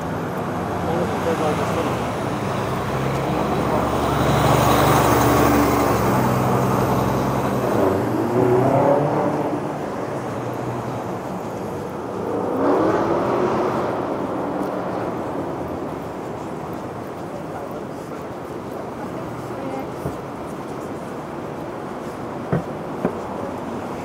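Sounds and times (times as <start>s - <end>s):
traffic hum: 0.0s - 24.0s.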